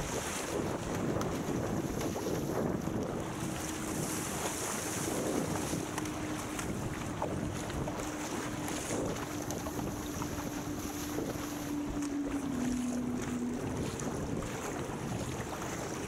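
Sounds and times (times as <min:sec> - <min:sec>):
water splashing along hull: 0:00.0 - 0:16.0
wind buffeting microphone: 0:00.0 - 0:16.0.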